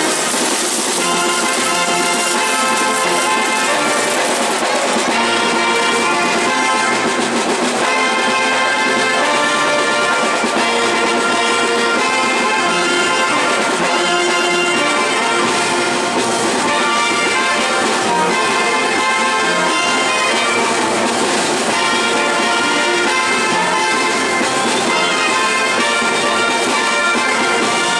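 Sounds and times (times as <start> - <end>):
brass band playing: 0.0 - 27.9.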